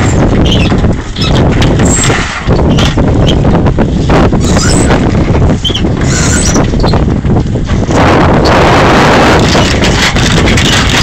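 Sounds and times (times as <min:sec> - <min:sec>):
sail rustles and knocks: 0:00.0 - 0:11.0
wind buffeting microphone: 0:00.0 - 0:11.0.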